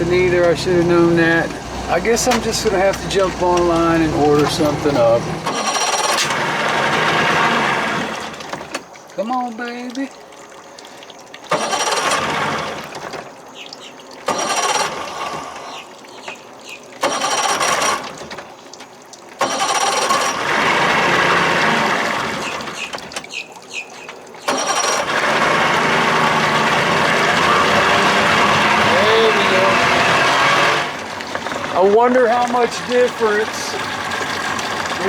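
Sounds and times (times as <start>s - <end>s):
outboard motor cranking and starting: 0.0s - 9.0s, 10.8s - 35.0s.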